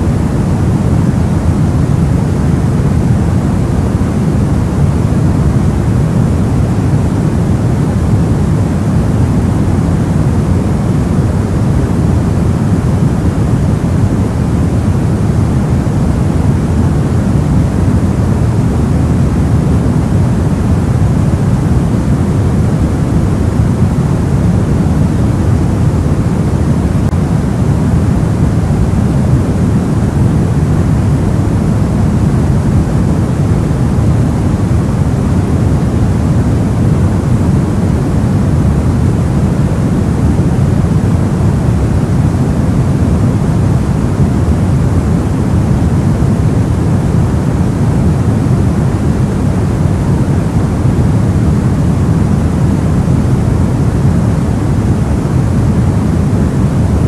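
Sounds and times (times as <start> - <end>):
soft white noise: 0.0 - 57.0.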